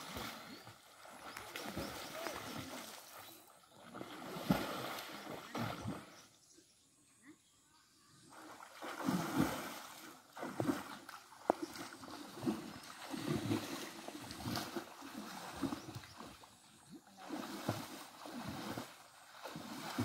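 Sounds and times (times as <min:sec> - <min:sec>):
water splashing and sloshing: 0:00.0 - 0:06.4, 0:08.2 - 0:20.0.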